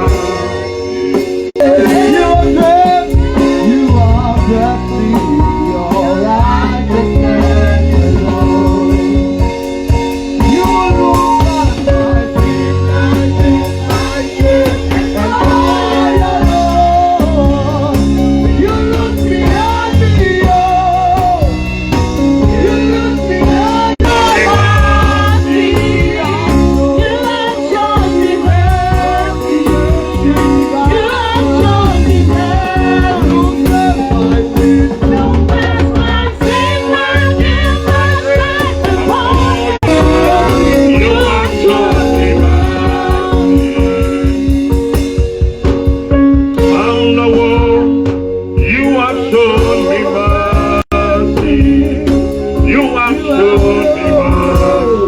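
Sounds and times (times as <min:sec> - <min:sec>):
voices singing: 0:00.0 - 0:45.4, 0:46.3 - 0:55.0
band with steady drum beat: 0:00.0 - 0:55.0.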